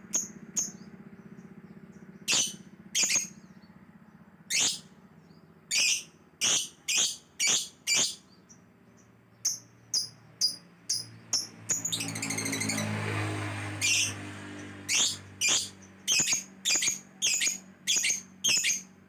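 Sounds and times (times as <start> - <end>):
lovebird chirping: 0.0 - 3.7, 4.5 - 12.9, 13.8 - 14.2, 14.8 - 19.0.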